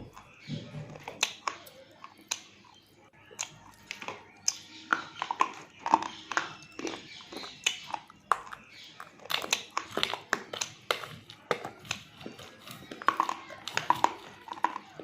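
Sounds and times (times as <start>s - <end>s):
crunching and chewing: 0.0s - 15.0s.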